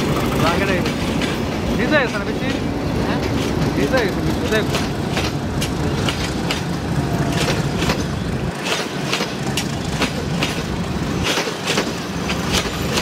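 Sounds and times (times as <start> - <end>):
train coaches rumbling past: 0.0 - 13.0
wheels clacking over rail joints: 0.0 - 13.0.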